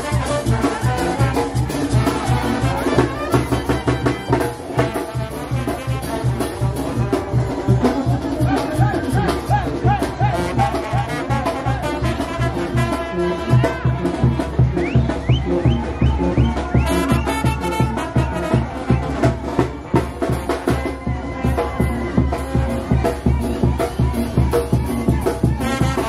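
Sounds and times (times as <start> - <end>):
brass band playing dance music: 0.0 - 26.0.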